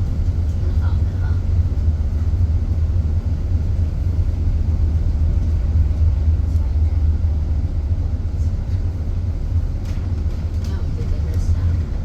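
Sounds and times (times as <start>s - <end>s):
bus cabin road rumble: 0.0s - 12.0s.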